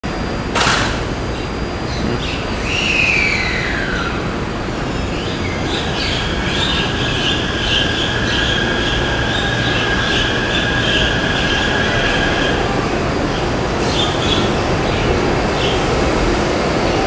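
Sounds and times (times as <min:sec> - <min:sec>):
rumble of moving train cars: 0:00.0 - 0:17.0
train high whine: 0:00.0 - 0:17.0
pulsing high squeal: 0:01.2 - 0:15.8.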